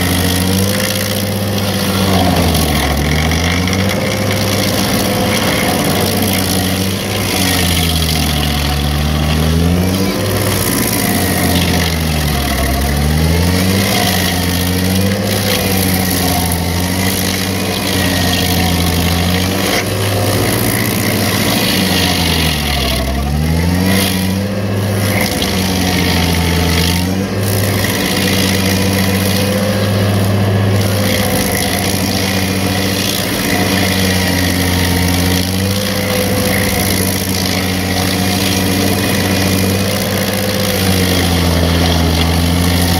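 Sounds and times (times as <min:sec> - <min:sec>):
stump grinder engine running: 0:00.0 - 0:42.9.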